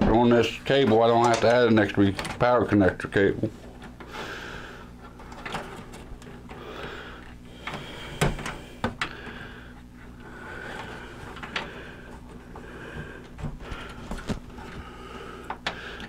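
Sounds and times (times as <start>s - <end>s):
cables rustling: 0.0s - 16.0s
faint steady hum: 0.0s - 16.0s.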